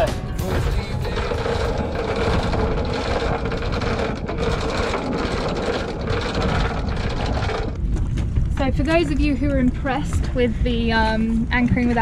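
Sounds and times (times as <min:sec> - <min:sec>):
boat engine humming: 0:00.0 - 0:12.0
wind noise on microphone: 0:00.0 - 0:12.0.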